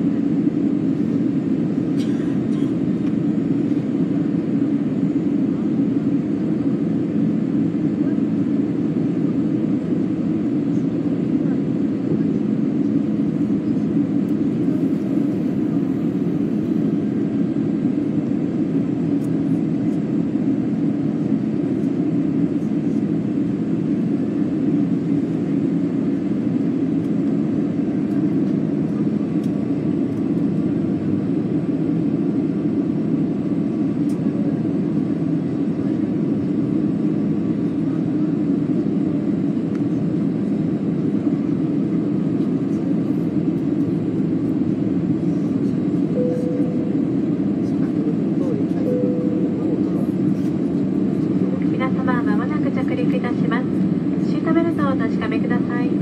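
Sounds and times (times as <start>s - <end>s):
jet engines and airflow rumble: 0.0s - 56.0s.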